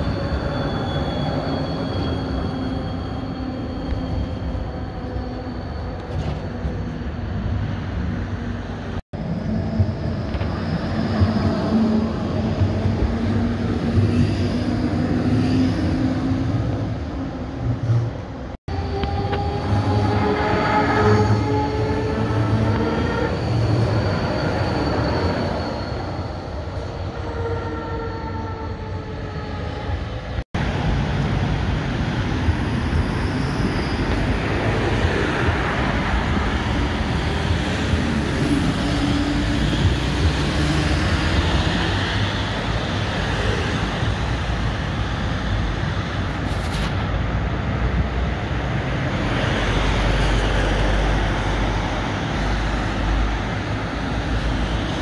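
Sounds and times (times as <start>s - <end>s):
street traffic: 0.0s - 55.0s
tram whining on rails: 0.0s - 55.0s.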